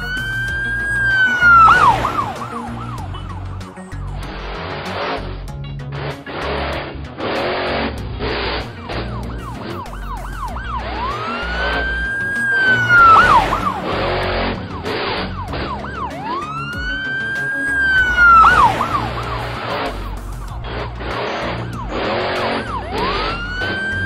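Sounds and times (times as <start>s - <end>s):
police siren yelping and wailing: 0.0s - 5.3s, 8.3s - 24.0s
background music with steady beat: 0.0s - 24.0s.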